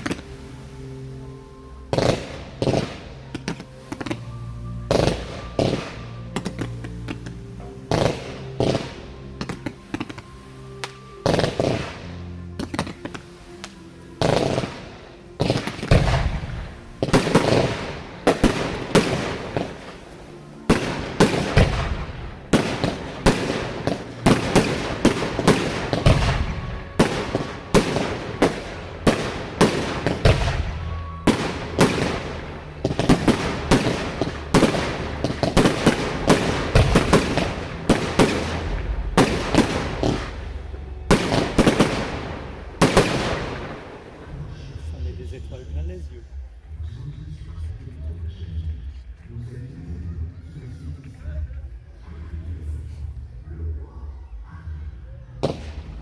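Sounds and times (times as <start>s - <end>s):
fireworks bursting with echo: 0.0s - 45.5s, 55.4s - 56.0s.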